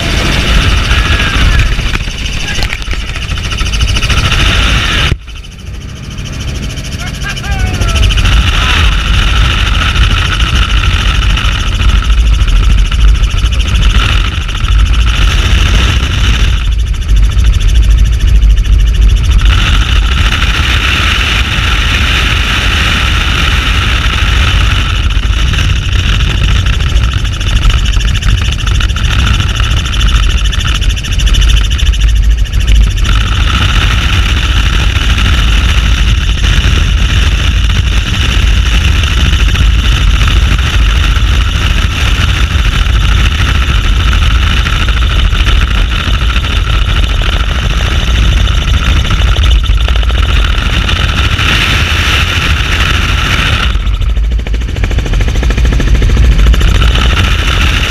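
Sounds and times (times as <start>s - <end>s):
helicopter rotor and engine: 0.0s - 57.9s
wind rumble on microphone: 0.0s - 57.9s.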